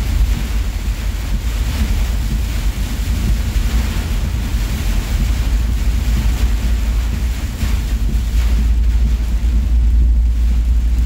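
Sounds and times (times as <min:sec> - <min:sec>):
gusting wind and road rumble: 0:00.0 - 0:11.0
heavy rain hissing on cab: 0:00.0 - 0:11.0.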